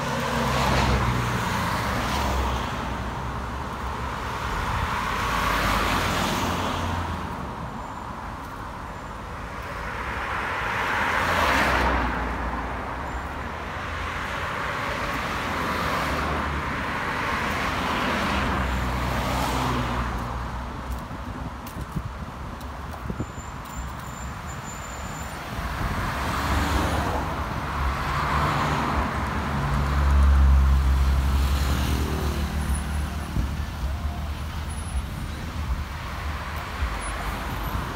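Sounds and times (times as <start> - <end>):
cars passing: 0.0 - 37.9.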